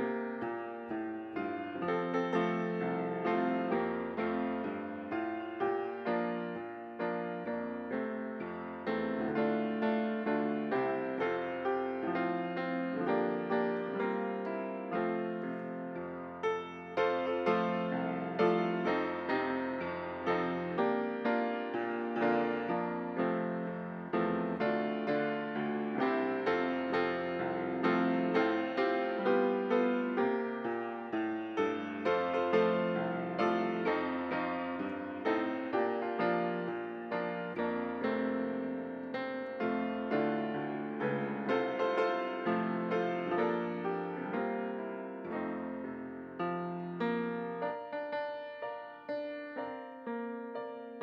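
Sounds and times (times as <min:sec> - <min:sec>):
piano playing: 0:00.0 - 0:51.0.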